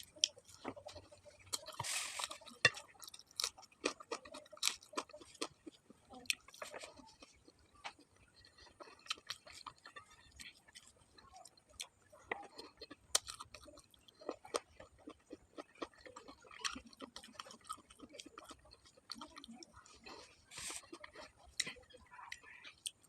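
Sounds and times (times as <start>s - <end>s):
close-up chewing and mouth sounds: 0.0s - 23.0s.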